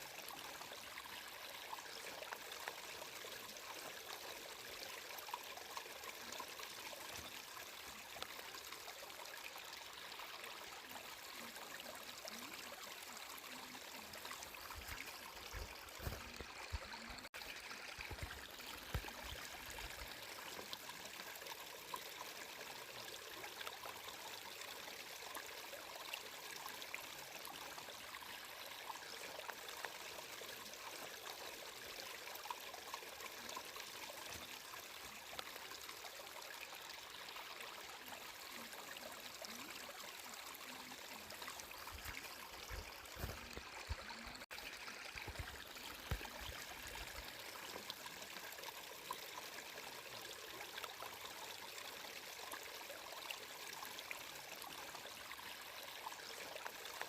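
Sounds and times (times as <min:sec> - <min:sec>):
flowing water trickling: 0:00.0 - 0:57.0.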